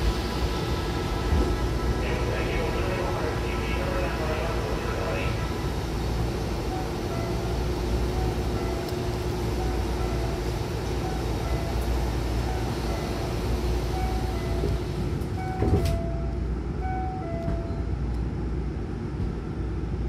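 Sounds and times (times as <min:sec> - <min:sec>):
sliding train doors closing: 0:00.0 - 0:16.4
low train rumble: 0:00.0 - 0:20.0.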